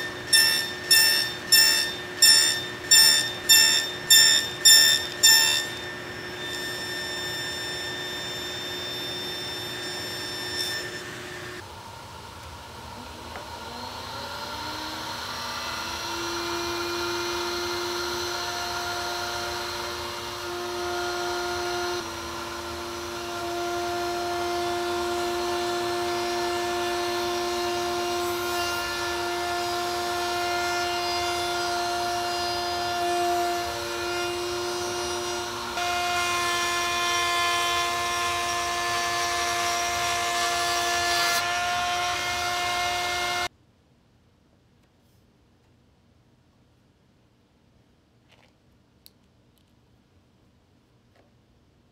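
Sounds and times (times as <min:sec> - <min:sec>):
router whining and cutting wood: 0:00.0 - 0:43.5.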